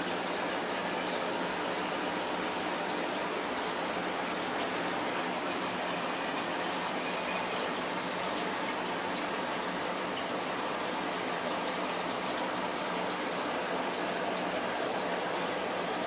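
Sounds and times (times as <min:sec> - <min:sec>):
aquarium filter water splashing: 0:00.0 - 0:16.0.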